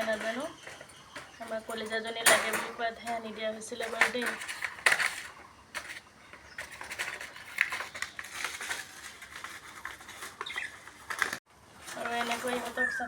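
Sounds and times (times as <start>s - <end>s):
scraping: 0.0s - 12.9s
rustling: 0.0s - 13.0s.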